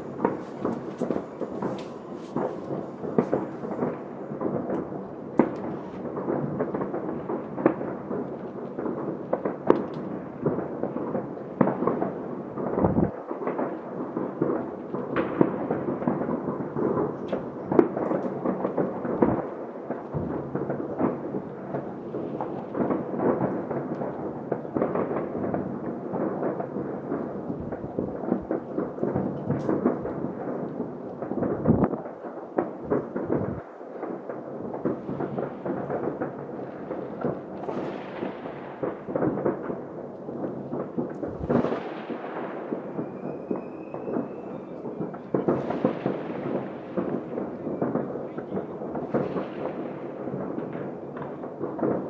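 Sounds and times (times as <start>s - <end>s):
distant fireworks rumble: 0.0s - 52.0s
sharp firework bangs: 0.0s - 52.0s.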